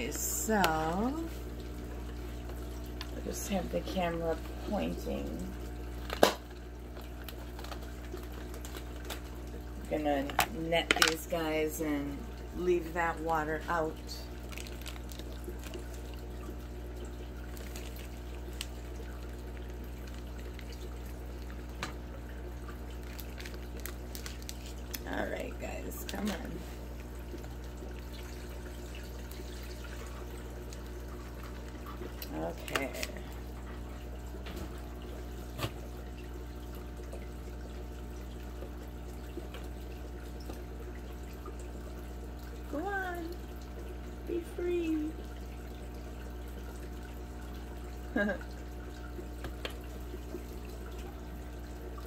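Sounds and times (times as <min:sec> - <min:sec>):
aquarium water trickling: 0:00.0 - 0:52.0
filter motor hum: 0:00.0 - 0:52.0.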